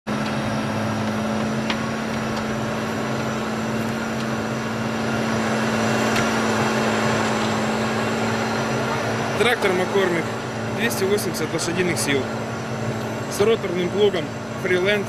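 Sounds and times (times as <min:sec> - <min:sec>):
tractor engine droning: 0:00.1 - 0:15.0.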